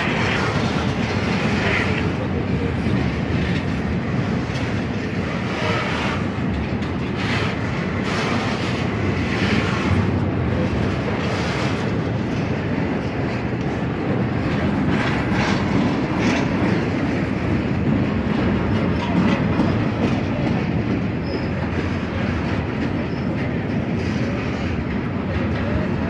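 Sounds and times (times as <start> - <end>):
rail wheel clacks: 0.0 - 26.0
steel wheels rumbling on rail: 0.0 - 26.0.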